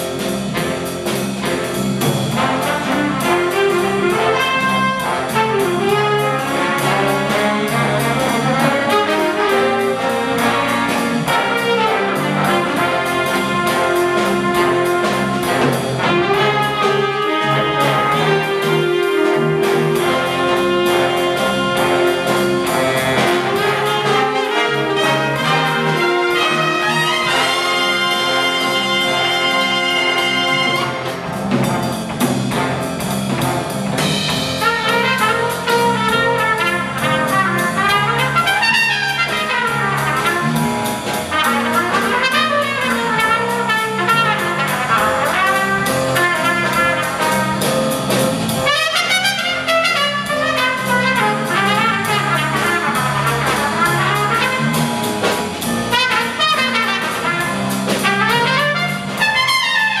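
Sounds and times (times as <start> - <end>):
big band jazz: 0.0 - 60.0
trumpet solo: 2.3 - 31.9, 32.5 - 60.0.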